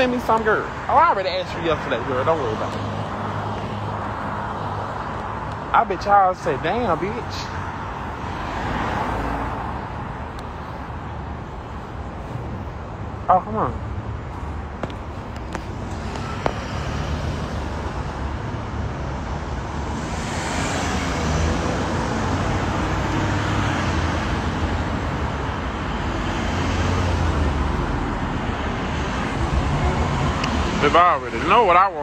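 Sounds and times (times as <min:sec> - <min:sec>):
rumble of vehicle noise: 0:00.0 - 0:32.0.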